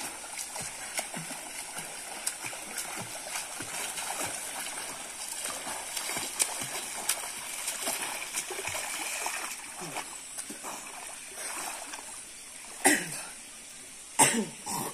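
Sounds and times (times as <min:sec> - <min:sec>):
swimmer splashing in pool: 0:00.0 - 0:12.1
steady rush of water: 0:00.0 - 0:14.9.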